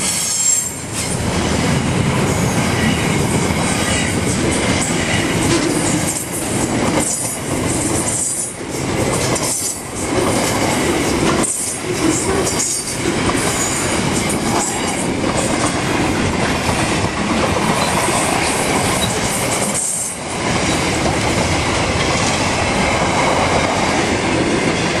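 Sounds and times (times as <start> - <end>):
freight train wheels clattering: 0.0 - 25.0.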